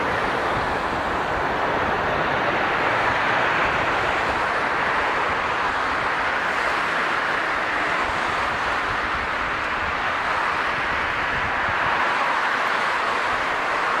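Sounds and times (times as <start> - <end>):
jet airliner engine rushing: 0.0 - 14.0.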